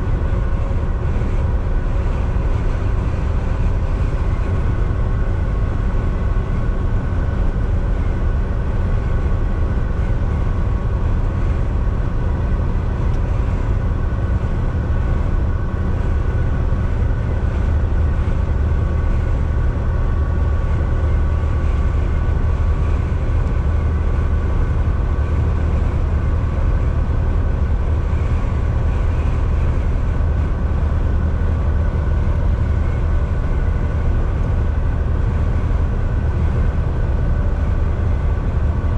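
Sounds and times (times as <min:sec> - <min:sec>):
faint steady whine: 0:00.0 - 0:38.9
road and tyre noise: 0:00.0 - 0:38.9
truck engine drone: 0:00.0 - 0:38.9.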